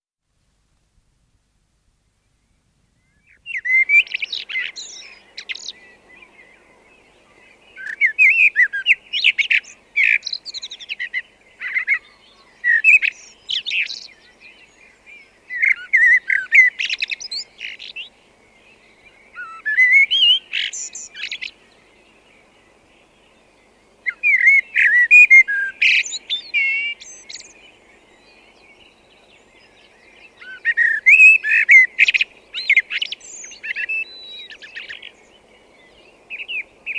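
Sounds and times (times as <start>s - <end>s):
blackbird singing: 3.0s - 22.2s, 23.0s - 36.9s.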